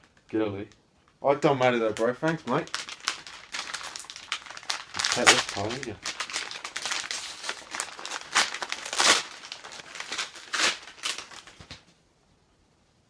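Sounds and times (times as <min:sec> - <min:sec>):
wrapping paper crinkling and tearing: 0:01.0 - 0:11.8.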